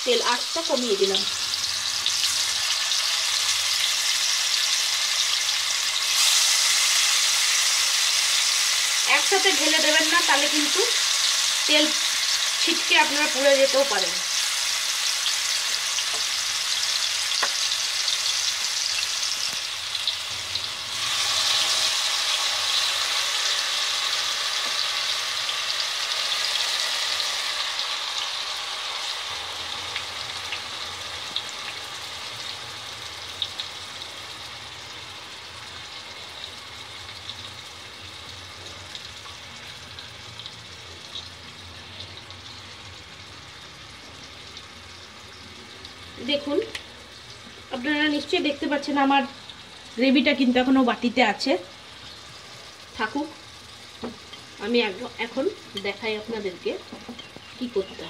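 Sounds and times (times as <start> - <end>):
chicken sizzling in hot fat: 0.0 - 58.0.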